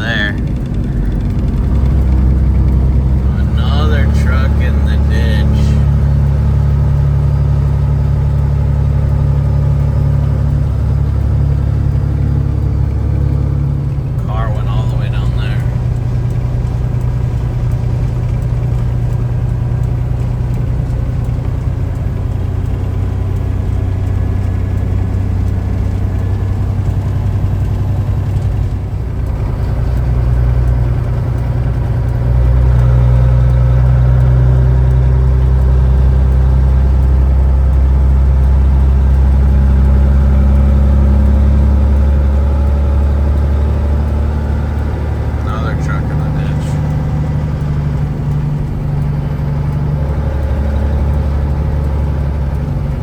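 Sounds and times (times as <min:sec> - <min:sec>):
truck diesel engine drone: 0:00.0 - 0:53.0.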